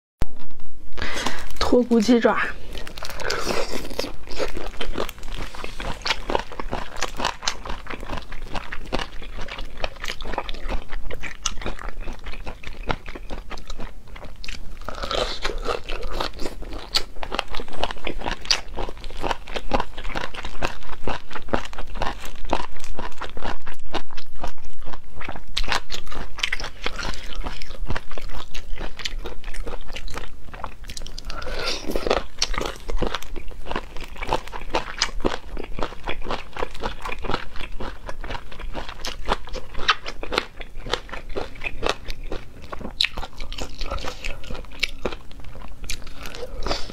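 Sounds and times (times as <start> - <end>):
crisp chewing crunches: 1.0 - 46.9.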